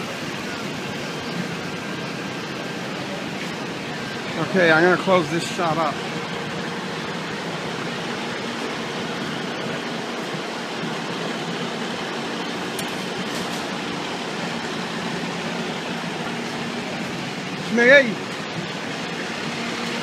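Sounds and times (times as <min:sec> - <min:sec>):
fire trucks idling: 0:00.0 - 0:20.0.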